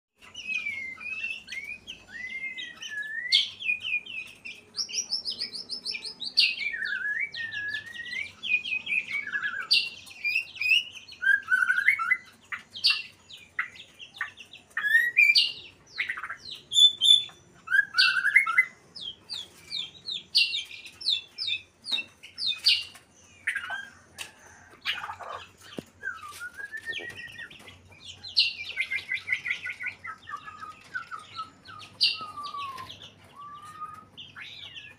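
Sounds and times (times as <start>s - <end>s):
bird singing whistles and trills: 0.3s - 34.9s.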